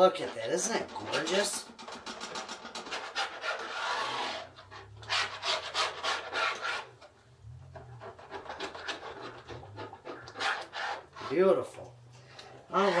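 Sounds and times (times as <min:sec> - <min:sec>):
spatula scraping skillet: 0:00.0 - 0:11.7, 0:12.6 - 0:13.0.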